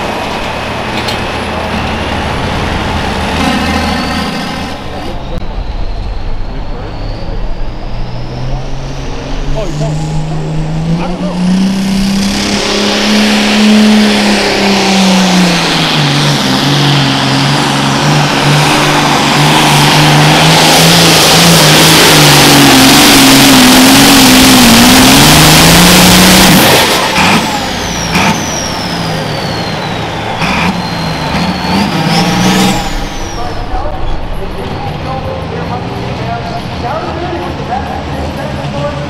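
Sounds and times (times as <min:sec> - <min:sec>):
tractor engine at full throttle: 0:00.0 - 0:39.0
turbo whine: 0:01.3 - 0:35.9.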